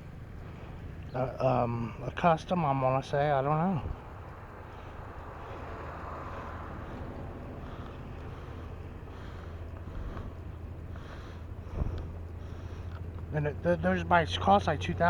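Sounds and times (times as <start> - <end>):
low outdoor drone: 0.0 - 15.0.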